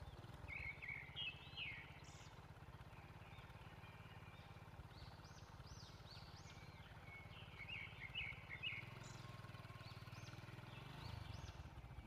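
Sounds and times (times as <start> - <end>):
flurry of bird chirps: 0.0 - 12.0.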